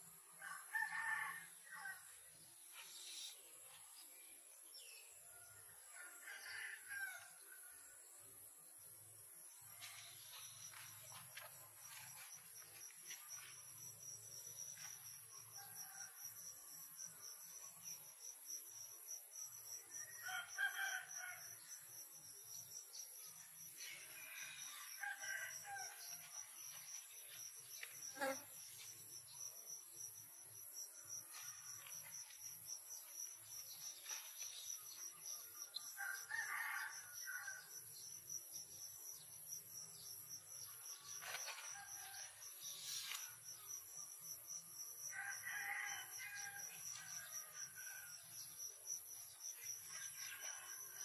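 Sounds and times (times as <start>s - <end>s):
high insect drone: 9.9s - 51.0s.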